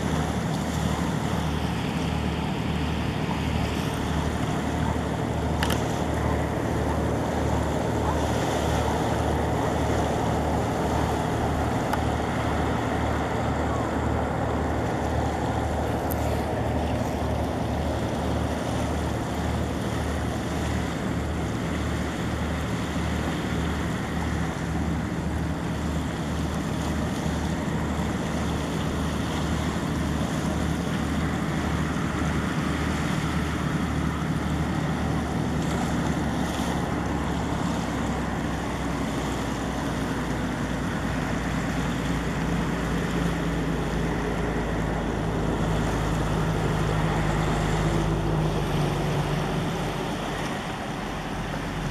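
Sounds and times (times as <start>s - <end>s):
low engine rumble: 0.0s - 51.9s
rushing water and waves: 0.0s - 51.9s.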